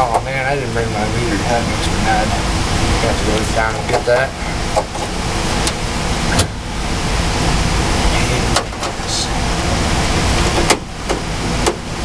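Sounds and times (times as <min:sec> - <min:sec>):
heat pump running: 0:00.0 - 0:12.0.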